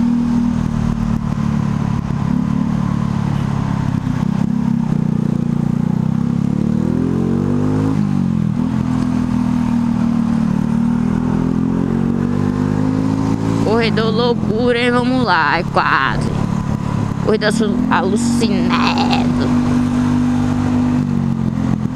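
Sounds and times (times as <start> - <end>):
motorcycle engine running: 0.0 - 21.9
road and wind noise: 0.0 - 21.9.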